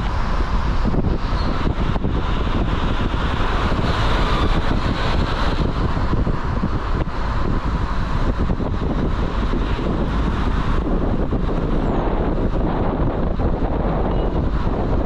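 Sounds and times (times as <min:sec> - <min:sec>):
vehicle road rumble: 0:00.0 - 0:15.0
wind buffeting microphone: 0:00.0 - 0:15.0.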